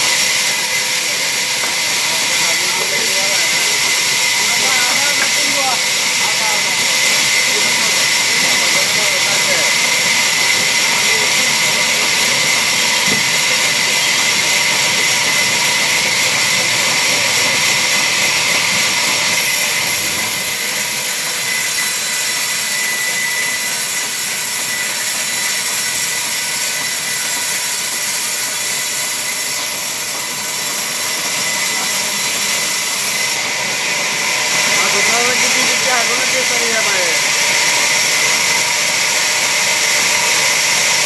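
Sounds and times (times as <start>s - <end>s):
band saw cutting log: 0.0s - 41.0s.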